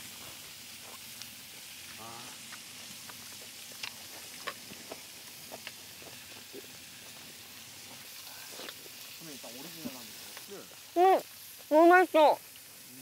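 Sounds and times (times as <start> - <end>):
pork sizzling on a grill: 0.0 - 13.0.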